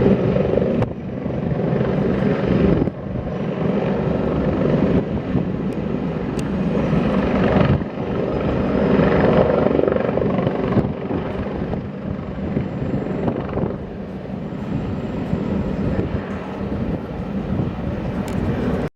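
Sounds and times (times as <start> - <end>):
helicopter engine noise: 0.0 - 18.9
helicopter rotor chop: 0.0 - 18.9.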